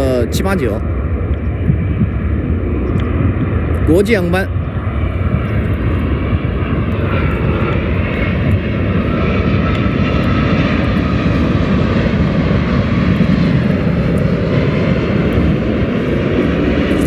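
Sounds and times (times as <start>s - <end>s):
faint engine whine: 0.0s - 17.0s
jet engines rumbling: 0.0s - 17.0s.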